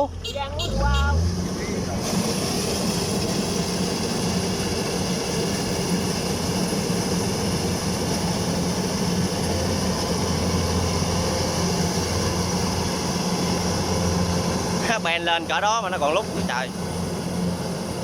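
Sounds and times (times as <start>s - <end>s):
combine harvester diesel engine: 0.0s - 18.0s.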